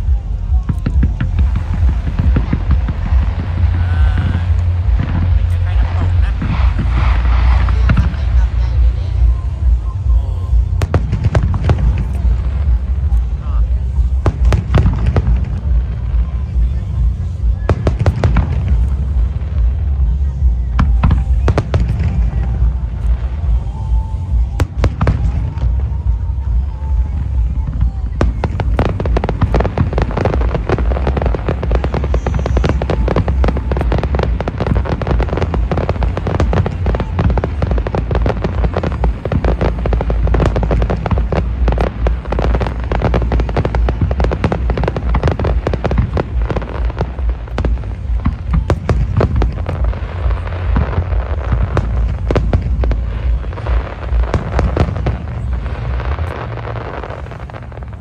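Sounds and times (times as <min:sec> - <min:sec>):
continuous low rumble: 0:00.0 - 0:58.0
firework bangs and crackling: 0:00.0 - 0:58.0.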